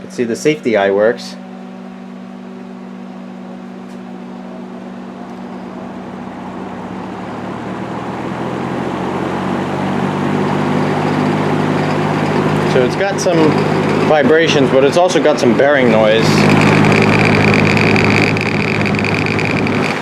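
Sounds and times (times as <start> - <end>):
electric fan motor humming: 0.0 - 20.0
fan bearing noise and vibration: 0.0 - 20.0.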